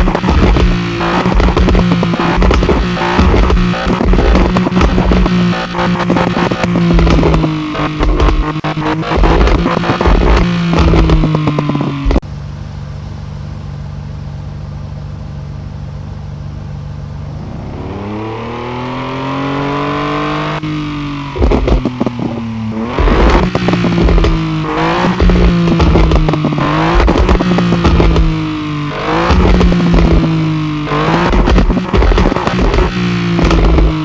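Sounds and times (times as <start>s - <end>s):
car engine revving: 0.0s - 34.0s
sharp exhaust crackles: 0.0s - 34.0s.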